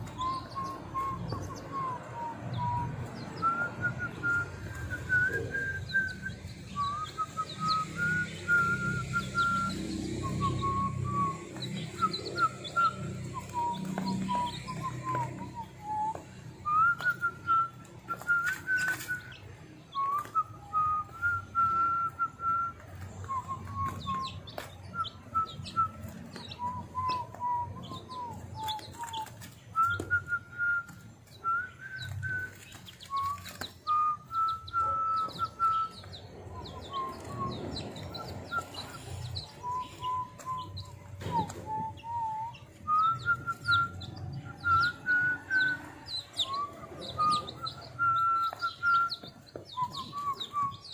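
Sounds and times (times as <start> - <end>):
chicks peeping: 0.0 - 50.9
slow whistle-like melody: 0.0 - 50.9.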